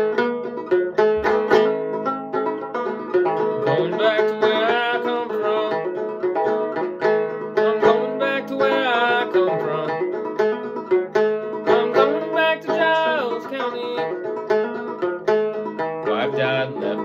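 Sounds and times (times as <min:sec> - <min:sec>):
banjo picking a tune: 0:00.0 - 0:17.0.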